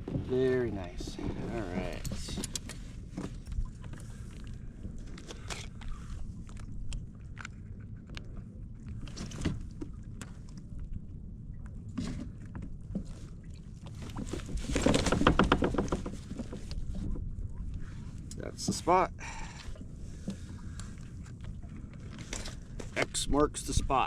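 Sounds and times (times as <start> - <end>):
wind and water rumble: 0.0 - 24.0.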